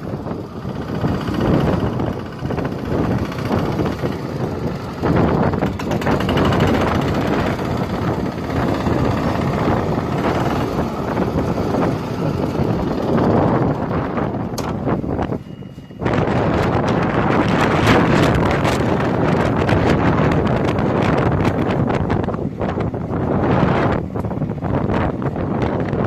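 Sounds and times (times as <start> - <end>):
strong gusty wind: 0.0 - 26.0
wind buffeting microphone: 0.0 - 26.0.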